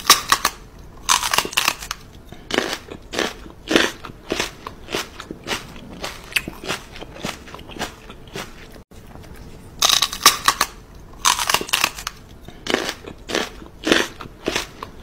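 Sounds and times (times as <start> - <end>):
crunching bites: 0.0 - 8.8, 9.8 - 15.0.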